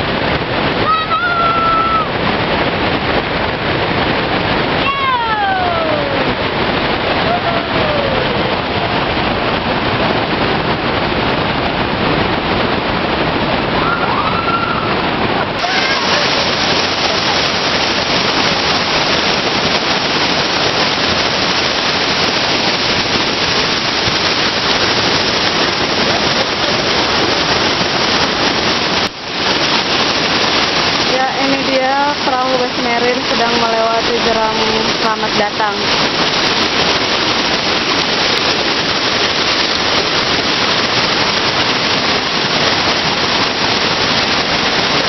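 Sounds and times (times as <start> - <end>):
whitewater rapids rushing: 0.0 - 45.0.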